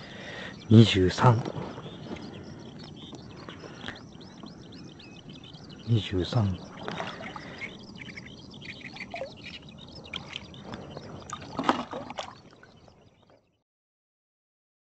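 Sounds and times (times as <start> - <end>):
water splashing and trickling: 0.0 - 13.4.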